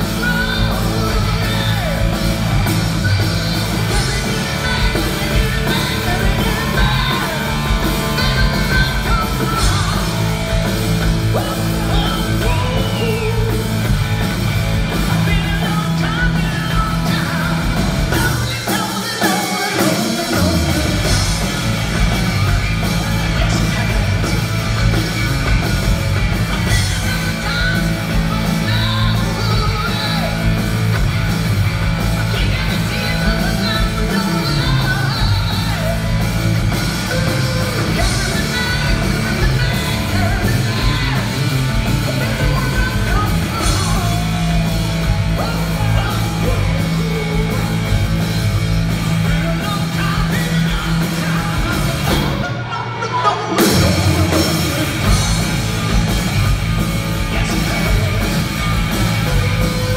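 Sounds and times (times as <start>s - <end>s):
man singing: 0.0s - 14.0s, 14.9s - 25.6s, 26.5s - 30.7s, 32.1s - 48.4s, 49.0s - 59.9s
bass and drums: 0.0s - 59.9s
electric guitar: 0.0s - 59.9s.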